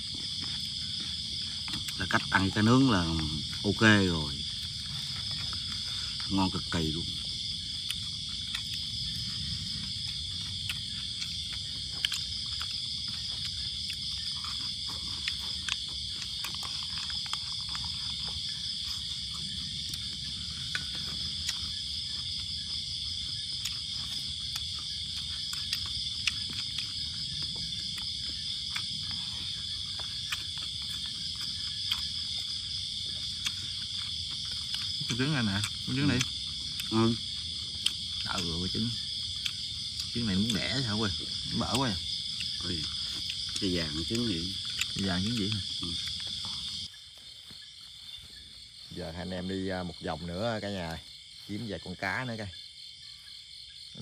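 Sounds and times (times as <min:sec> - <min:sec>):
crickets and insects trilling: 0:00.0 - 0:54.0.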